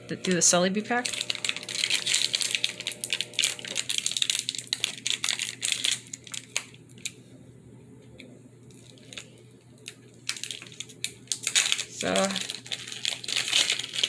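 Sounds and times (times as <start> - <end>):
foil wrapper tearing and crinkling: 0.9 - 7.2, 8.7 - 14.0.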